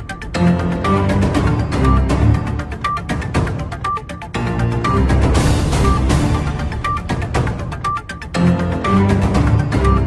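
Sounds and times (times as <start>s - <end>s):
news theme music with beat: 0.0s - 10.0s.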